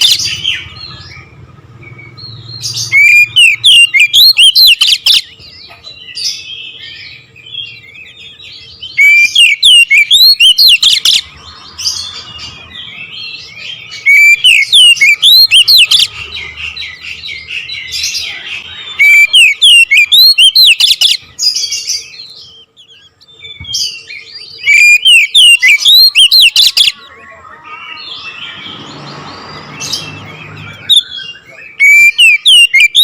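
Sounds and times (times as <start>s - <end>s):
bird singing whistles and chatter: 0.0s - 5.5s, 6.1s - 33.0s.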